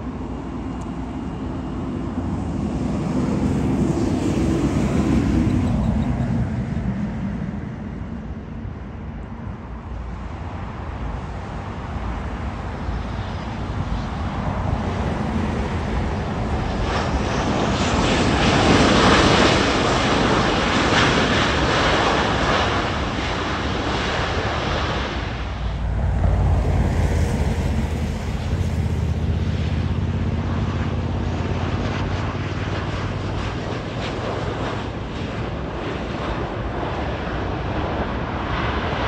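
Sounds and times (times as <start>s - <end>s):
jet engines roaring: 0.0s - 39.0s
wind on microphone: 0.0s - 39.0s.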